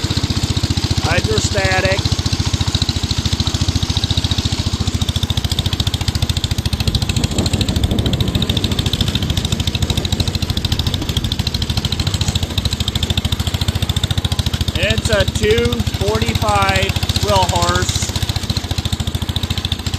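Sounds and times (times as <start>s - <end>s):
lawn tractor engine running: 0.0s - 19.9s.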